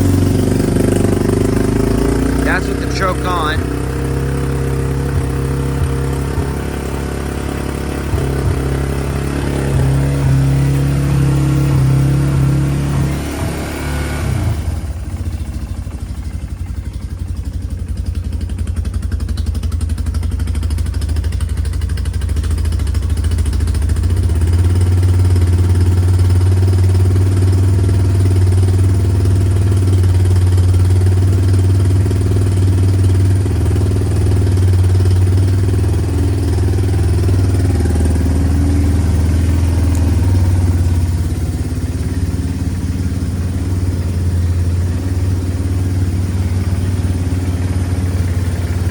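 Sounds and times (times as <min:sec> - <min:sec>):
atv engine idling: 0:00.0 - 0:48.9.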